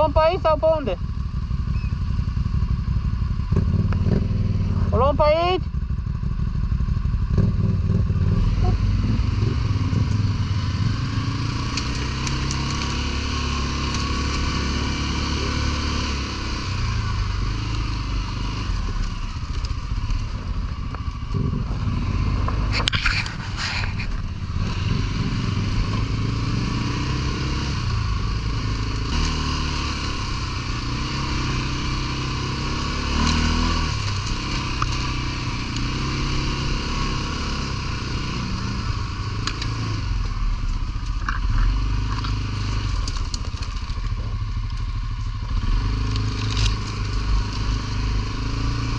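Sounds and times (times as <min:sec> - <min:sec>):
atv engine running under load: 0:00.0 - 0:48.9.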